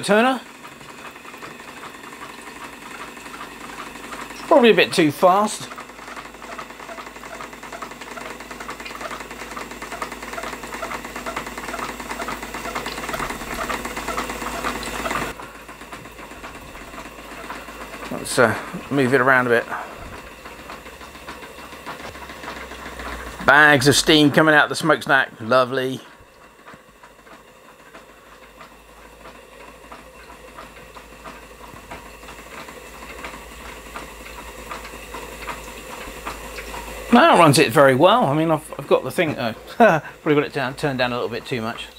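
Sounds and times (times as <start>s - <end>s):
model steam engine running fast: 0.0s - 41.9s.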